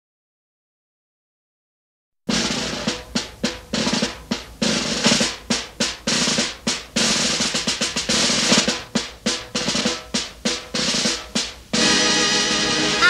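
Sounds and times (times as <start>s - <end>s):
band music: 2.3s - 13.0s
snare drum strokes and rolls: 2.3s - 13.0s.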